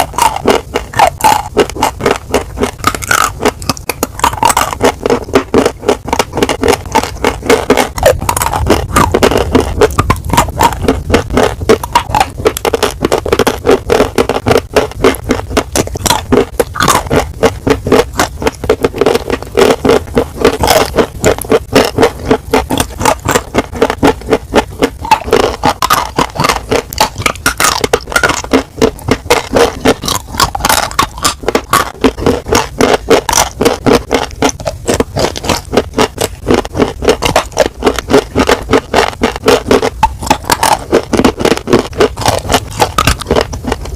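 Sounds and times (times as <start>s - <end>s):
chewing crunchy food: 0.0s - 43.9s.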